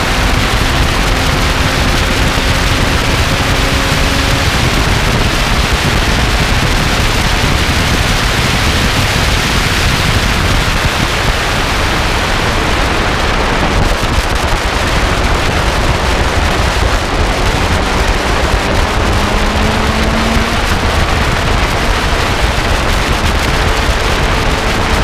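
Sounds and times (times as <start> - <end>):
wind and road noise rushing: 0.0 - 25.0.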